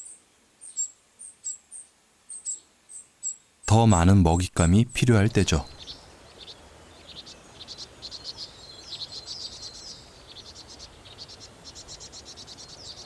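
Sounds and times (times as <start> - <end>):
nestlings chirping: 0.0 - 13.0.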